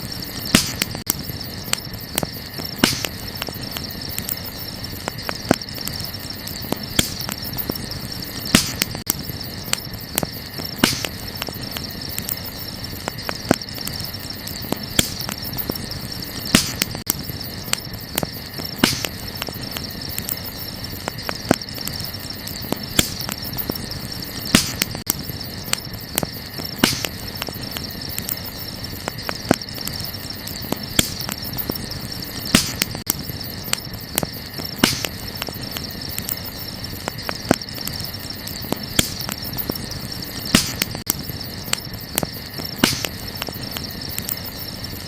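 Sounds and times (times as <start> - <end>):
burning wood crackling: 0.0 - 45.0.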